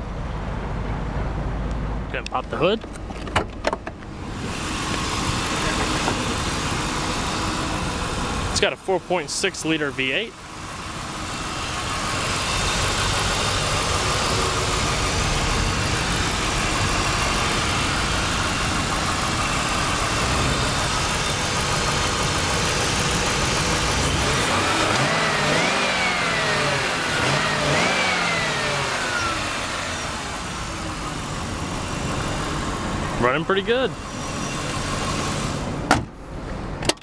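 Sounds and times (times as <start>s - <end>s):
car engine running and revving: 0.0s - 37.0s.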